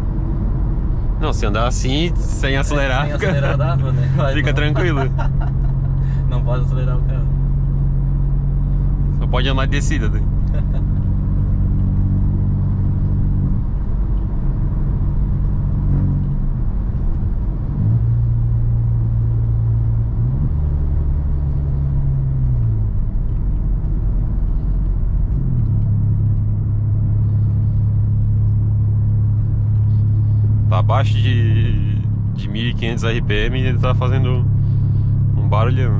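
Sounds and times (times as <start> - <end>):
car engine droning: 0.0 - 35.9.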